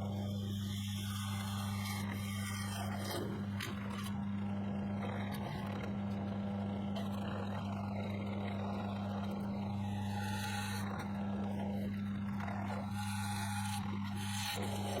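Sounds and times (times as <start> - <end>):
power tool running on steel: 0.0 - 15.0.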